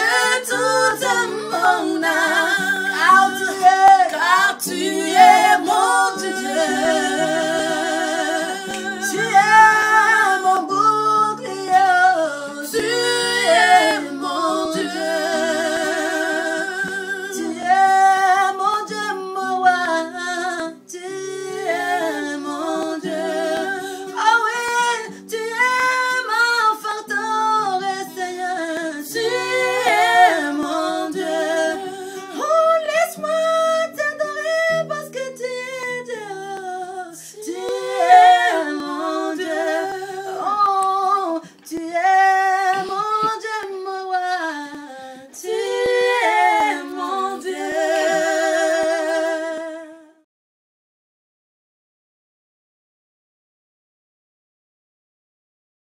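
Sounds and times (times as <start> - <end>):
woman singing with vibrato: 0.0 - 50.2.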